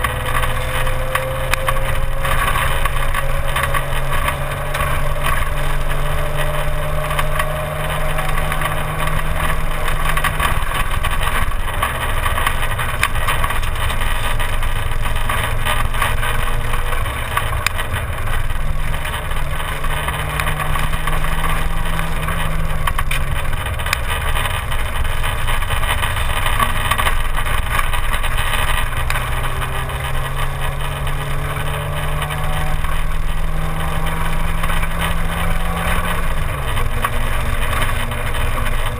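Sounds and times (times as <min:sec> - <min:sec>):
rally car engine revving: 0:00.0 - 0:38.9
road and wind noise: 0:00.0 - 0:38.9.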